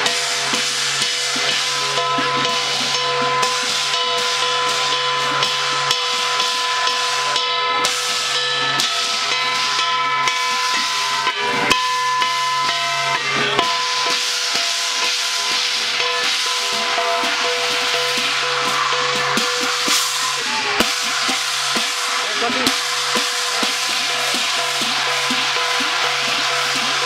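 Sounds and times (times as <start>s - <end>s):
crashing cymbals: 0.0s - 27.0s
drum strokes: 0.0s - 27.0s
held ringing tones: 0.0s - 27.0s.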